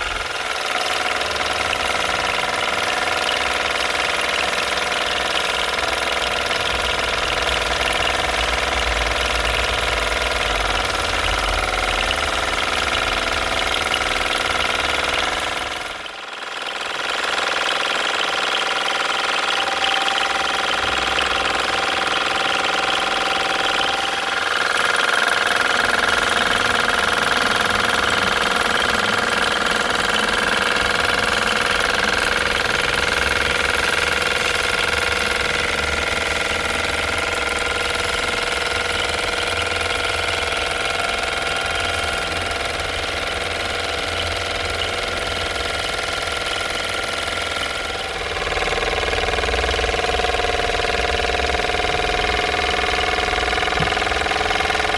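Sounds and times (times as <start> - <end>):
toy steam engine running: 0.0 - 54.9.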